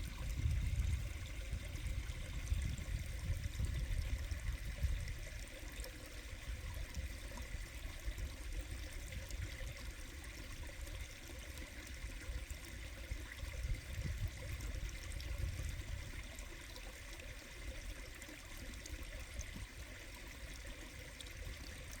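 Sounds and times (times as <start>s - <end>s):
mountain stream flowing: 0.0s - 22.0s.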